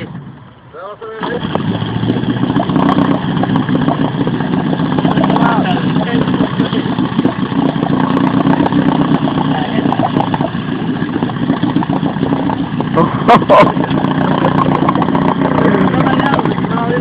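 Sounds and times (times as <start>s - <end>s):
small engine running: 1.2s - 17.0s.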